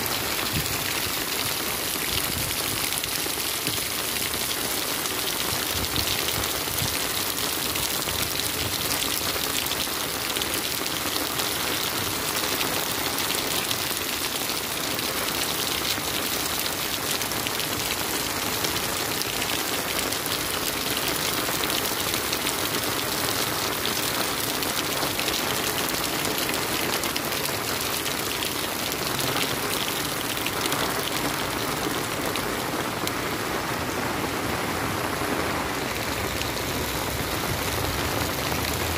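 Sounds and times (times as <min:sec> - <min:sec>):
rain on wet pavement: 0:00.0 - 0:38.9.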